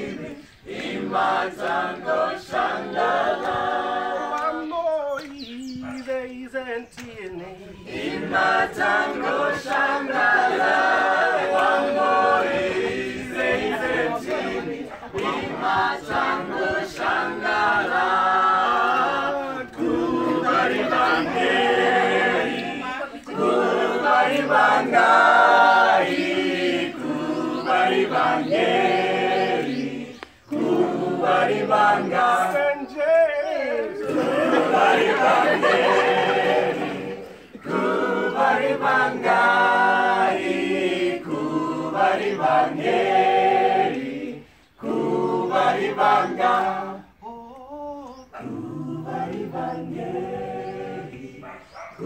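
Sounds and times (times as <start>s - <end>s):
group singing unaccompanied: 0.0s - 52.0s.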